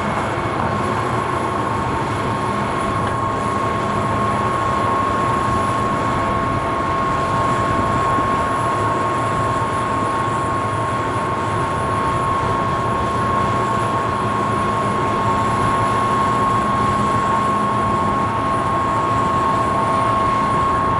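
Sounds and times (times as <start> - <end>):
machine whine: 0.0 - 20.9.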